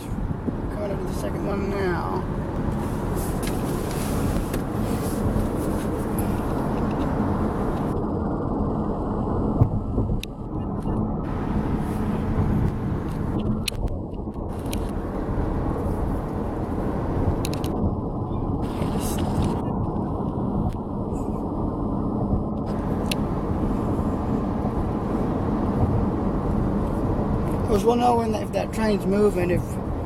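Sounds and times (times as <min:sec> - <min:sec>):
car cabin road noise: 0:00.0 - 0:30.0.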